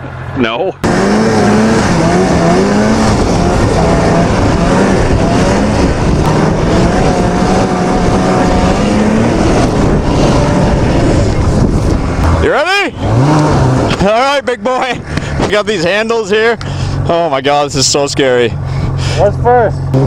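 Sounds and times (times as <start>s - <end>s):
snowmobile engine running: 0.4s - 20.0s.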